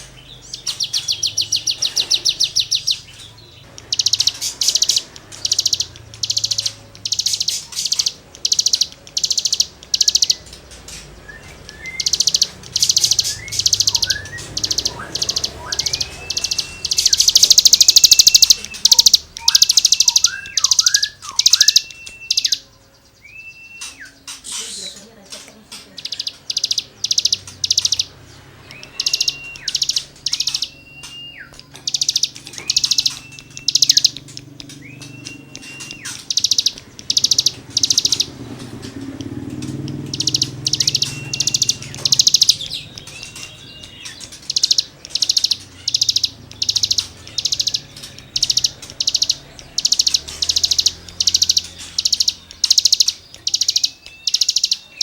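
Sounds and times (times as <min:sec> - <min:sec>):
songbird buzzy rasping notes: 0:00.0 - 0:55.0
bird clear whistles: 0:03.9 - 0:25.0, 0:28.7 - 0:38.3, 0:40.1 - 0:55.0.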